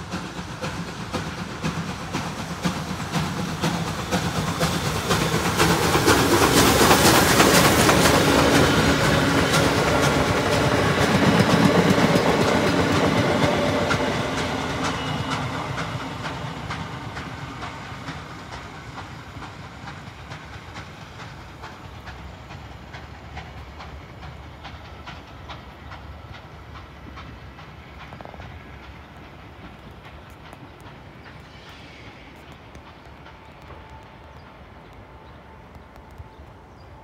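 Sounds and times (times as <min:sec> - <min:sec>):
train wheels clicking over rail joints: 0:00.0 - 0:37.0.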